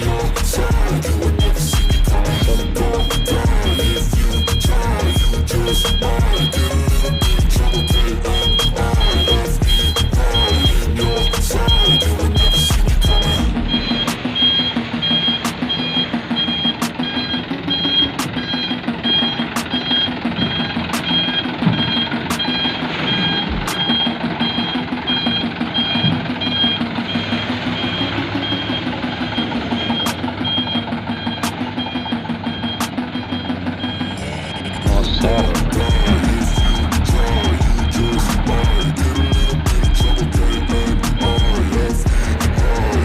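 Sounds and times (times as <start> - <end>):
diesel truck engine running: 0.0 - 43.0
truck reversing alarm beeping: 0.0 - 43.0.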